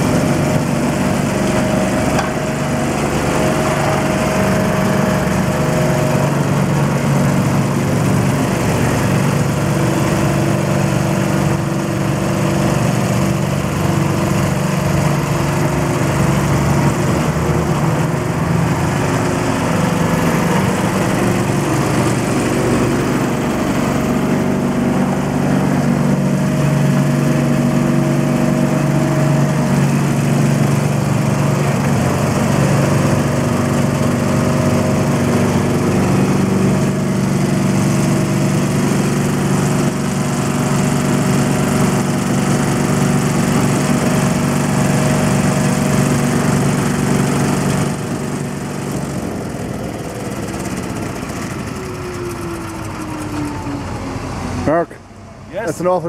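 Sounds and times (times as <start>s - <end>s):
street vacuum engine droning: 0.0s - 56.0s.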